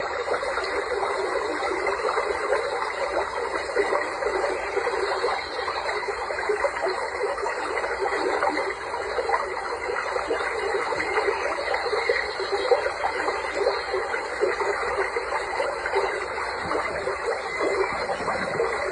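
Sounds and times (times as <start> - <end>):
running water babbling: 0.0 - 18.9.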